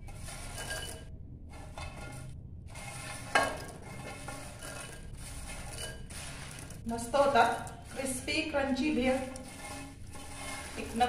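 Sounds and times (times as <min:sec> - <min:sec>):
bread cubes clattering: 0:00.0 - 0:11.0.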